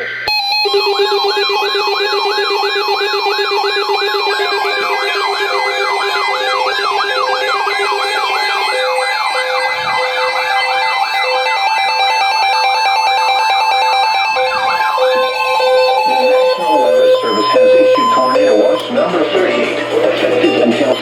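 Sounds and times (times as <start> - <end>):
electronic siren sweeping: 0.0 - 20.5
steady low tone: 0.3 - 20.8
beeping tone: 0.3 - 21.0.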